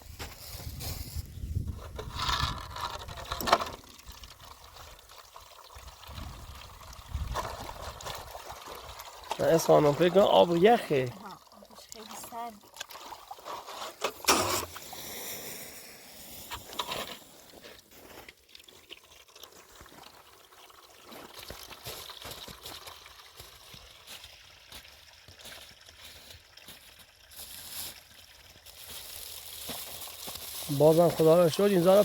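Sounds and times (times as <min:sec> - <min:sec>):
water trickling and splashing: 0:00.1 - 0:32.0.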